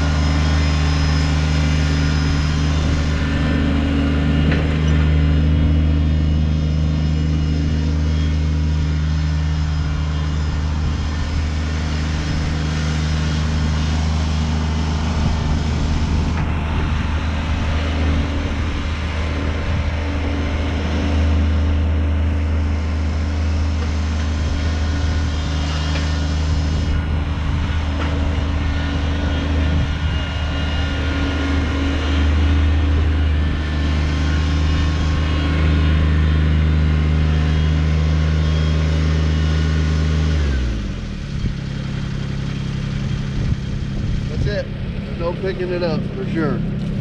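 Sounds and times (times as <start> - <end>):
tractor diesel engine straining: 0.0 - 47.0.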